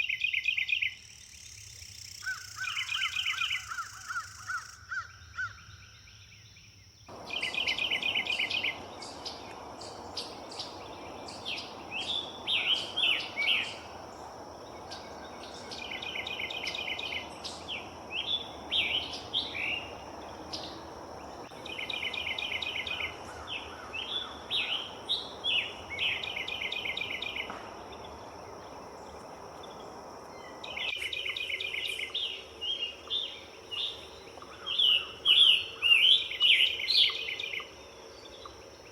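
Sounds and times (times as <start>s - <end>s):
songbird trilling song: 0.0s - 38.9s
background hiss: 5.7s - 38.9s.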